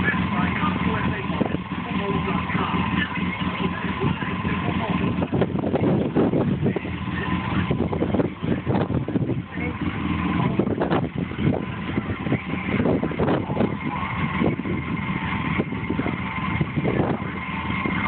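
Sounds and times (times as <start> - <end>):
engine idling unevenly: 0.0 - 18.0.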